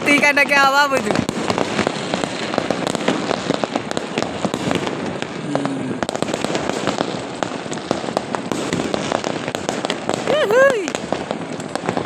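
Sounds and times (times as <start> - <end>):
fireworks and firecrackers crackling: 0.0 - 12.0.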